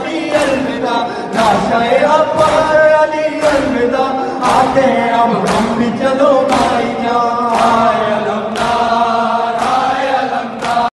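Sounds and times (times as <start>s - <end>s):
man singing lament over microphone: 0.0s - 9.5s
crowd chanting in unison: 0.0s - 10.9s
rhythmic chest beating: 0.0s - 10.9s.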